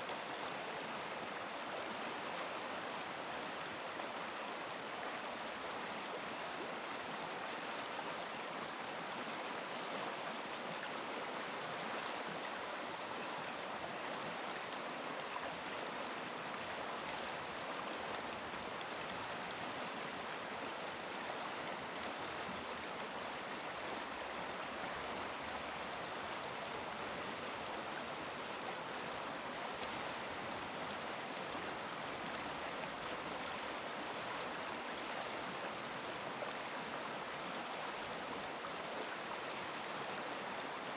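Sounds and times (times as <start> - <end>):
river rushing over stones: 0.0 - 40.9.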